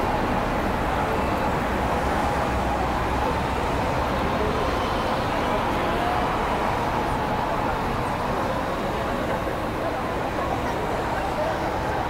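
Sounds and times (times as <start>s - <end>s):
vehicles passing on city street: 0.0s - 12.0s.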